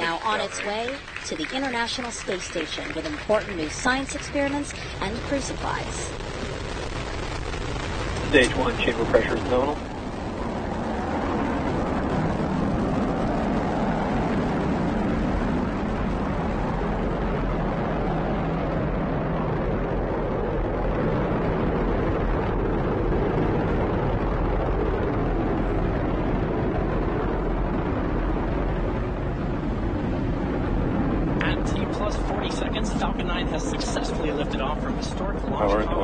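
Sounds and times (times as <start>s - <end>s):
rocket engines rumbling: 0.0s - 36.0s.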